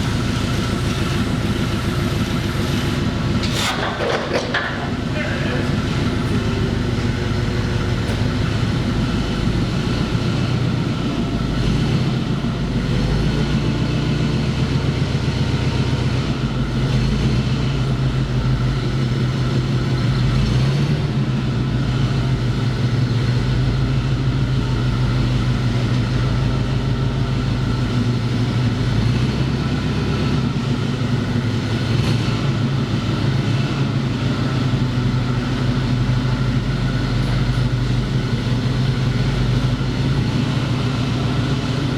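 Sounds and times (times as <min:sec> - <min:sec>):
machine droning: 0:00.0 - 0:41.9.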